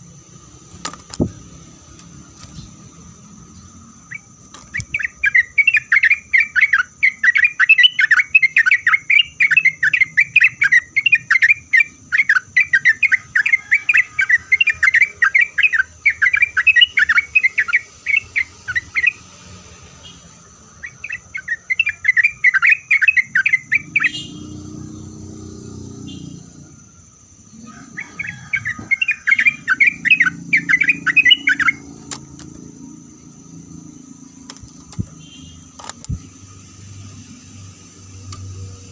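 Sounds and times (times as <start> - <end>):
bulbul singing chattering song: 0.0 - 38.9.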